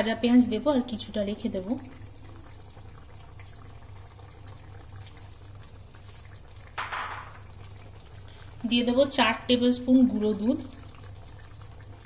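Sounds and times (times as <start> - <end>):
gravy simmering in a pan: 0.0 - 12.0
low steady hum: 0.0 - 12.0.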